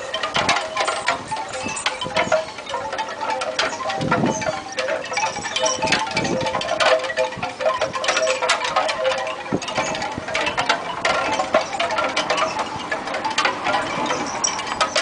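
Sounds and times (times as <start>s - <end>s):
metallic jingling and tinkling: 0.0s - 15.0s.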